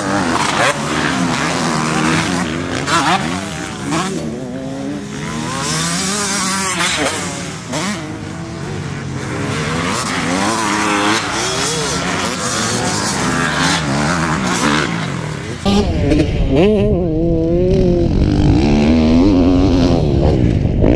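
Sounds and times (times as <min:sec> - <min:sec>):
motocross engines revving: 0:00.0 - 0:20.9.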